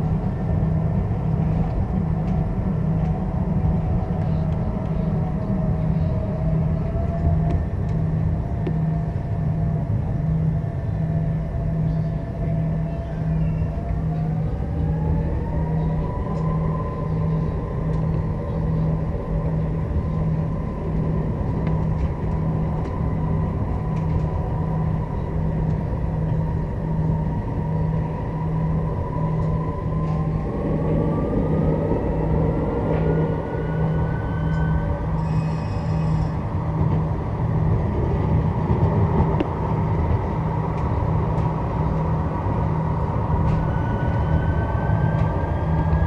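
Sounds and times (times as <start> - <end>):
pulsing low hum: 0.0 - 46.0
tram motor whine: 0.0 - 46.0
tram rumbling on track: 0.0 - 46.0.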